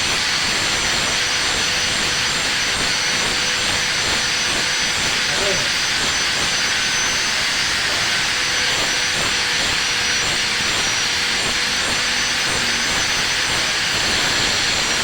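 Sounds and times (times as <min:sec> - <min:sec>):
welding arc hissing: 0:00.0 - 0:15.0.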